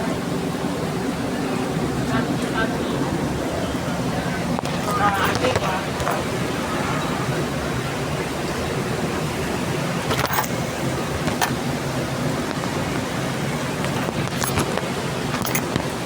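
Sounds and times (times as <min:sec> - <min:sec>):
heavy rain hissing: 0:00.2 - 0:16.0.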